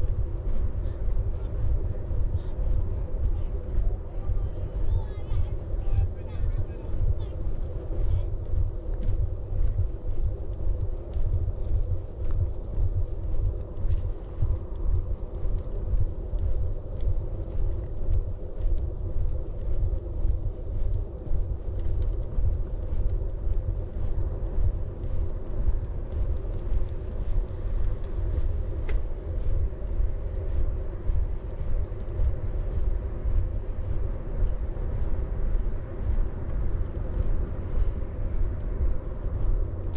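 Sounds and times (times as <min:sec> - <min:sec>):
low outdoor rumble: 0:00.0 - 0:39.9.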